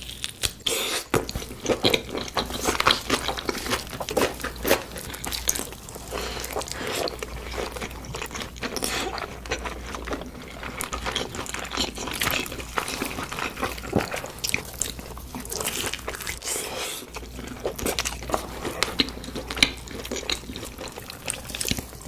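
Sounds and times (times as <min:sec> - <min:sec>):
crunching and chewing food: 0:00.0 - 0:22.0.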